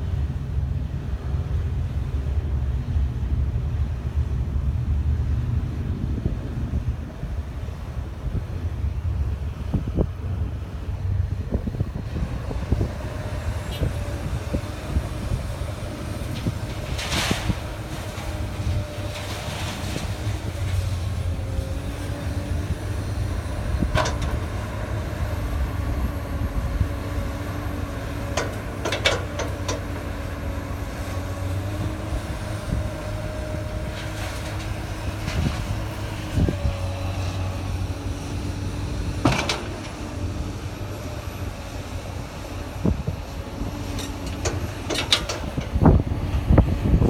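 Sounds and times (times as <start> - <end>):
excavator engine rumble: 0.0 - 47.0.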